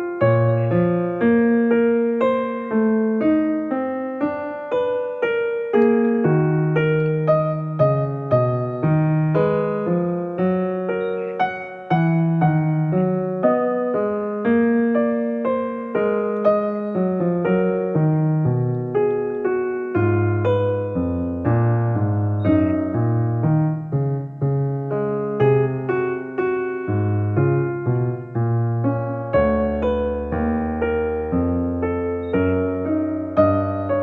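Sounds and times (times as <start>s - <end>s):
slow piano melody: 0.0s - 34.0s.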